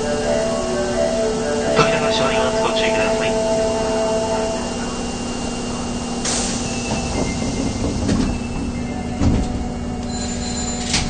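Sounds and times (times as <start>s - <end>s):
sliding door hiss: 1.3s - 11.0s.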